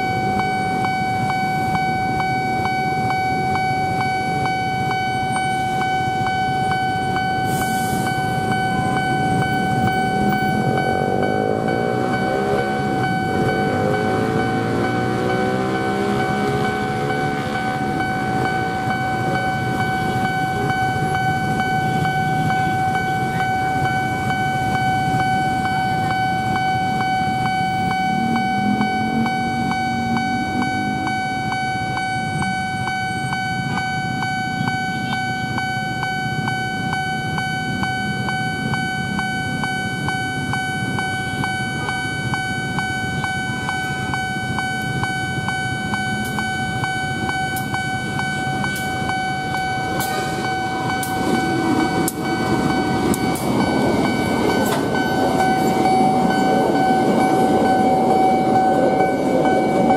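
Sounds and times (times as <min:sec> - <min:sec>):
level crossing warning bell: 0:00.0 - 0:59.9
road traffic rumble: 0:00.0 - 0:59.9.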